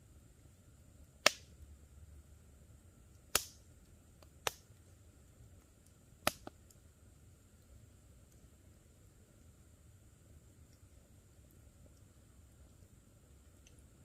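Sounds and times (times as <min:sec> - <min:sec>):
campfire wood crackling: 0:00.4 - 0:14.0.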